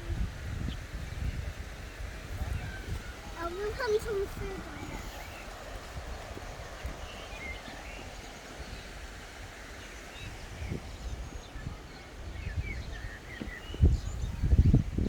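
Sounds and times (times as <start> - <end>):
wind rumble on microphone: 0.0 - 15.0
birds chirping: 0.6 - 15.0.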